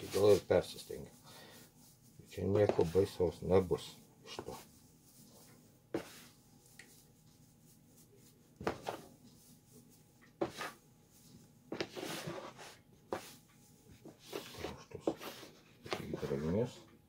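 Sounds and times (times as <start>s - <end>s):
hands rustling tobacco in basin: 0.0s - 16.4s.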